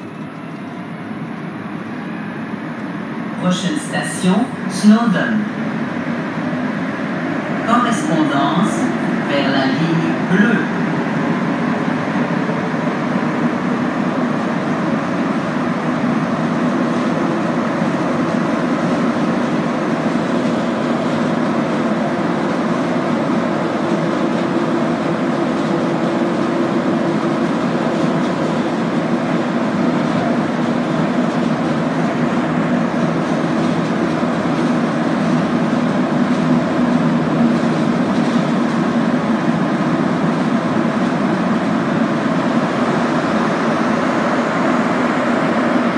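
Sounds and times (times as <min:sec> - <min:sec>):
subway train running through tunnel: 0:00.0 - 0:45.9.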